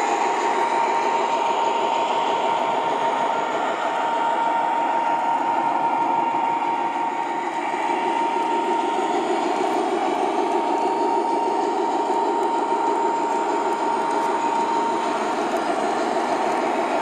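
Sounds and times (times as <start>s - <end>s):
high whine: 0.0s - 17.0s
model train wheels rumbling: 0.0s - 17.0s.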